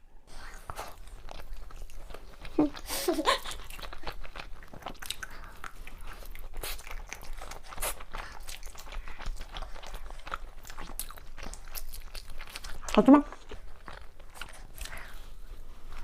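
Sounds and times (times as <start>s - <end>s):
chewing and crunching food: 0.3s - 16.0s.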